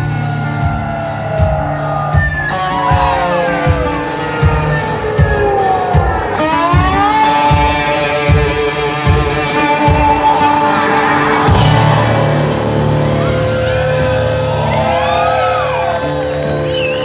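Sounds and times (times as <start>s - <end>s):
steady drum beat: 0.0s - 16.6s
guitar bending sliding notes: 0.0s - 17.0s.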